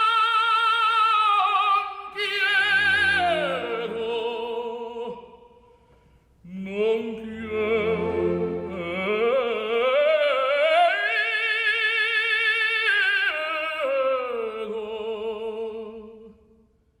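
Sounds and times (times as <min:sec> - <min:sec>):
operatic voice singing: 0:00.0 - 0:05.4, 0:06.4 - 0:16.3.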